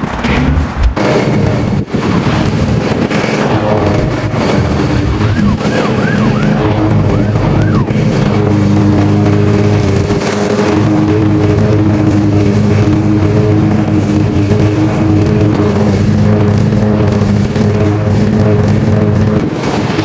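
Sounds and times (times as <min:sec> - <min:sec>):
lawn mower engine cutting grass: 0:00.2 - 0:20.0.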